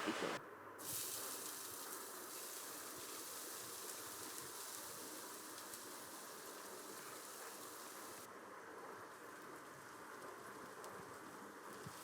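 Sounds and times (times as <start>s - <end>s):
faint rain patter: 0.0s - 12.0s.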